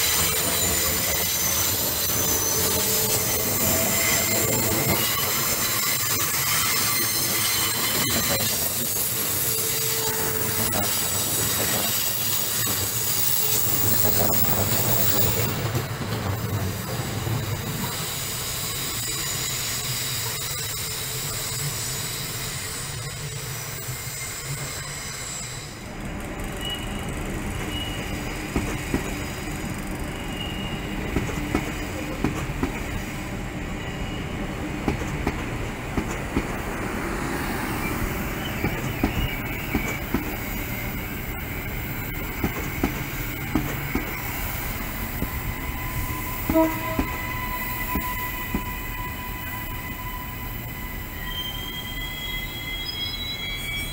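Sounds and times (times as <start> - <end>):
train wheels rumbling and clicking: 0.0 - 33.4, 34.2 - 51.2
train wheels squealing on rails: 0.0 - 53.9.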